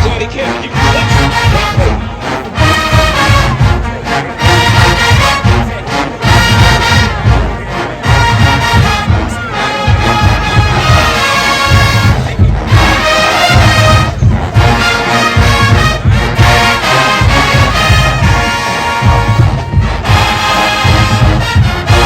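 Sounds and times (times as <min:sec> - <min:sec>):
brass section: 0:00.0 - 0:22.0
heavy drum beat: 0:00.0 - 0:22.0.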